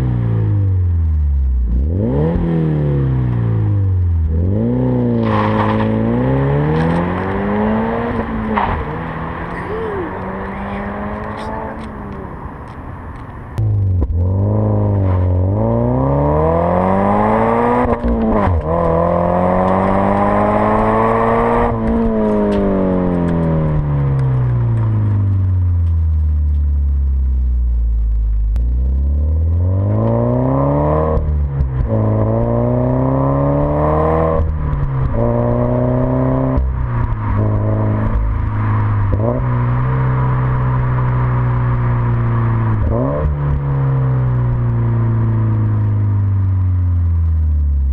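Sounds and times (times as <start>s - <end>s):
car engine revving through upshifts: 1.7s - 25.2s, 29.0s - 46.0s.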